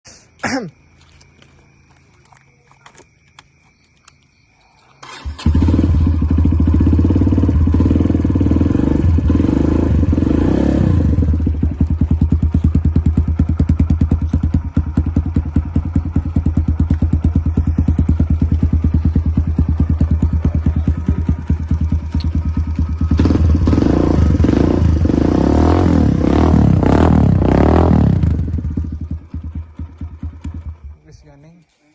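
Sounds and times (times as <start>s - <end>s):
motorcycle engine revving: 5.0s - 31.0s.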